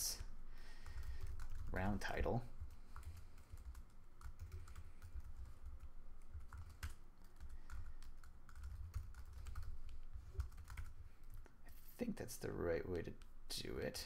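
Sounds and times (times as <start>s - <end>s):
computer keyboard typing: 0.2s - 11.5s.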